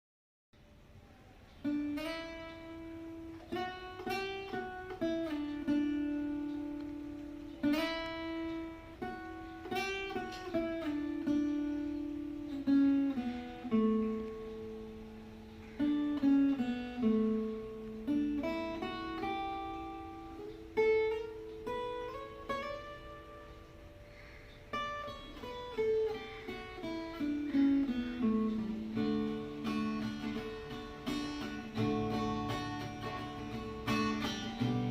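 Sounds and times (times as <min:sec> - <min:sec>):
acoustic guitar plucked melody: 0:00.6 - 0:34.9.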